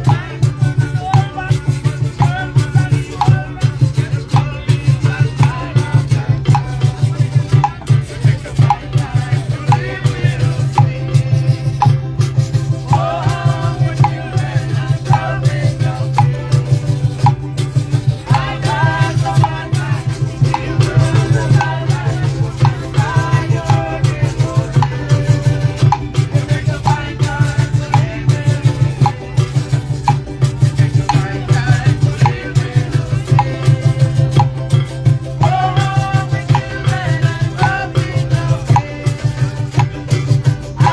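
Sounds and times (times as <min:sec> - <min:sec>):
person singing: 0:00.0 - 0:12.0, 0:12.8 - 0:40.9
live band music: 0:00.0 - 0:40.9
shakers: 0:00.0 - 0:40.9.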